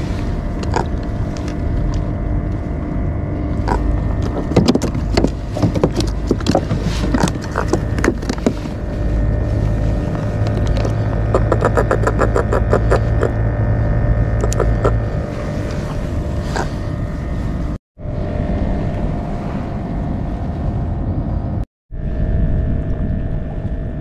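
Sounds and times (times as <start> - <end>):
wind and water rumbling: 0.0 - 24.0.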